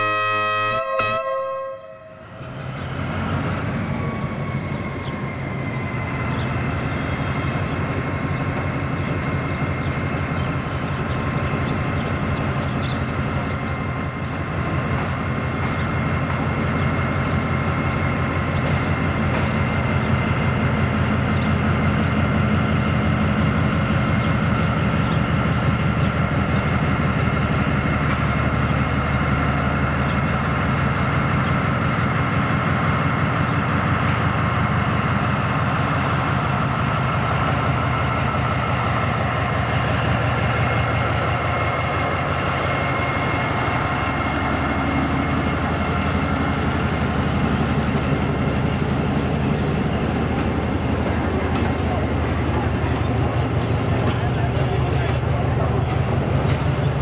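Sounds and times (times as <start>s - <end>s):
locomotive diesel engine throbbing: 0.0s - 57.0s.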